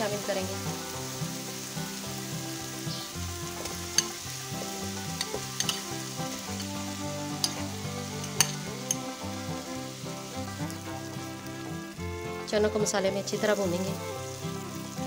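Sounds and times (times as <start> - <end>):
sauce sizzling in frying pan: 0.0 - 15.0.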